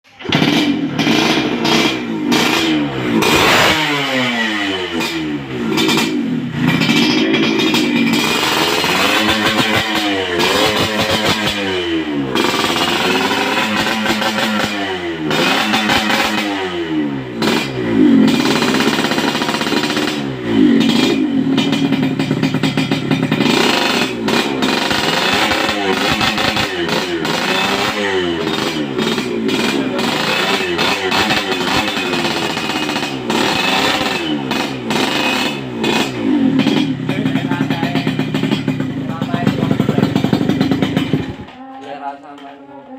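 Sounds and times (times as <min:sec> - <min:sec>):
motorcycle engine revving: 0:00.0 - 0:41.7.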